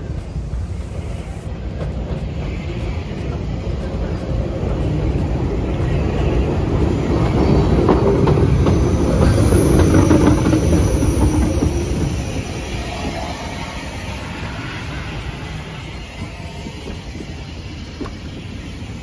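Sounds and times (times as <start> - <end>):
steam locomotive passing: 0.0 - 19.0
train wheels clicking over rail joints: 0.0 - 19.0.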